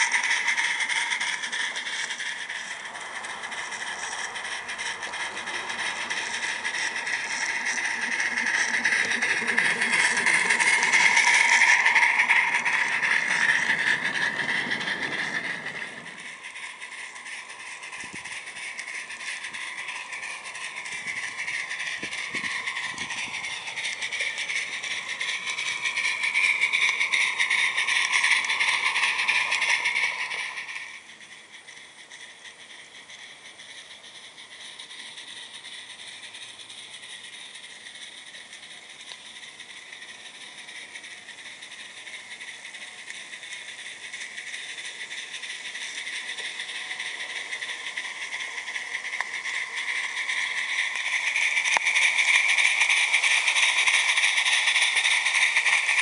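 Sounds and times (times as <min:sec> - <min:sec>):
model steam locomotive chuffing: 0:00.0 - 0:56.0
wheels clicking over rail joints: 0:00.0 - 0:56.0.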